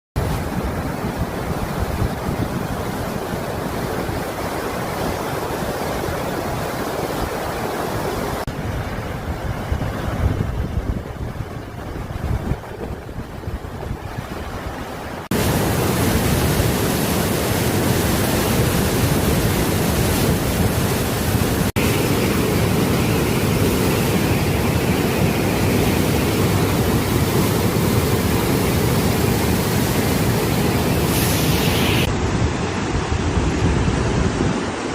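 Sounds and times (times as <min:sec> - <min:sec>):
wind and sea surf rushing: 0:00.2 - 0:34.9.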